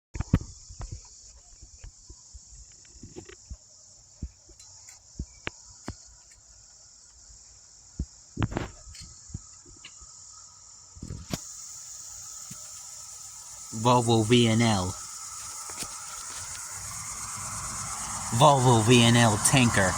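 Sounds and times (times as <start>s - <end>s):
insects chirring: 0.2s - 19.9s.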